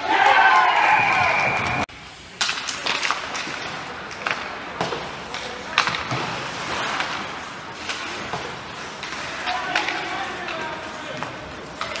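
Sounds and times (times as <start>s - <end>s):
skates scraping on ice: 0.9s - 12.0s
hockey sticks and puck knocks: 2.4s - 12.0s.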